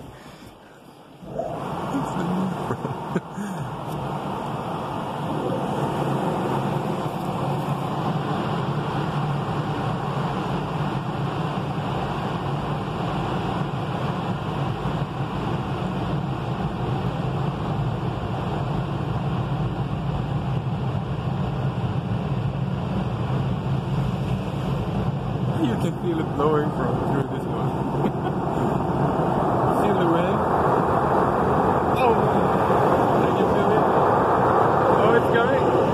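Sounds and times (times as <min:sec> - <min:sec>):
car wash machinery hum: 0:00.0 - 0:35.9.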